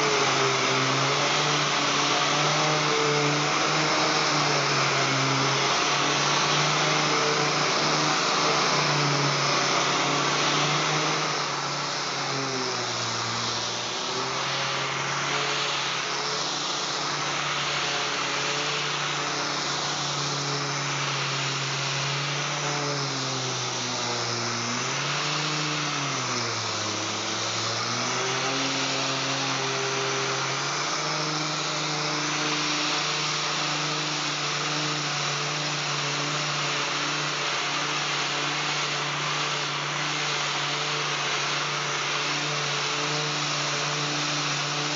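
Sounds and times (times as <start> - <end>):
orbital air sander running: 0.0 - 44.9.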